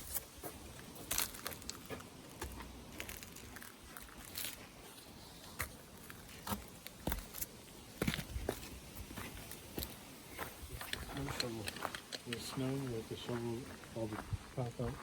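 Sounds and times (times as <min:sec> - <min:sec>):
faint background hiss: 0:00.0 - 0:15.0
footsteps crunching: 0:00.0 - 0:15.0.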